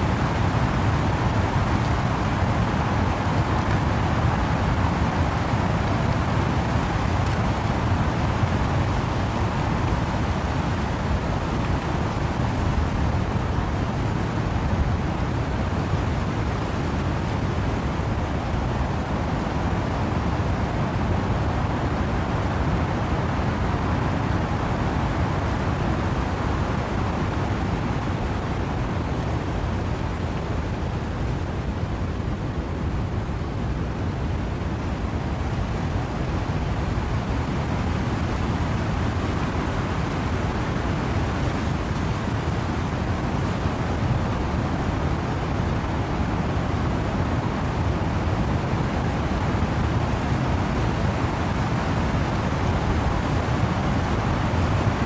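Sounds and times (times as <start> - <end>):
wind and rain rushing: 0.0 - 55.0.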